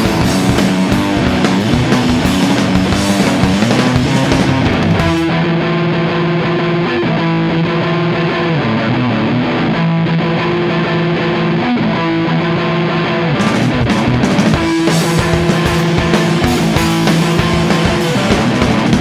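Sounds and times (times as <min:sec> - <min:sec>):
distorted electric guitar: 0:00.0 - 0:19.0
live rock band: 0:00.0 - 0:19.0.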